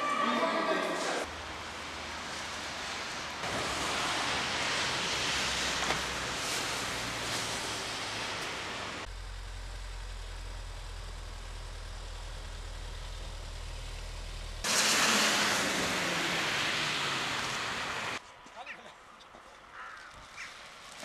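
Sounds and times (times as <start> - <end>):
vehicle engine hum: 1.2 - 18.2.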